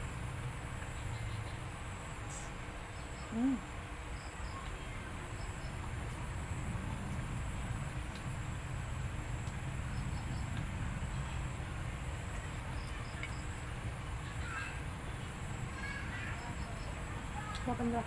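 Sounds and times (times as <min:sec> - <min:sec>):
low background rumble: 0:00.0 - 0:18.0
insect chirps: 0:00.1 - 0:18.0.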